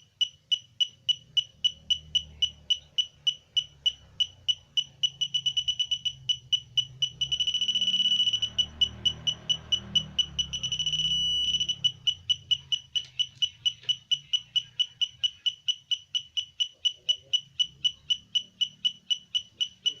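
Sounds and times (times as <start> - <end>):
metal detector beeping: 0.0 - 20.0.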